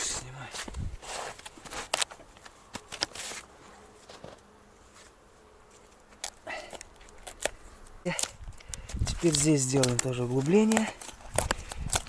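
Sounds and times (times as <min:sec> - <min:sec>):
faint wood scrapes and clicks: 0:00.5 - 0:12.0.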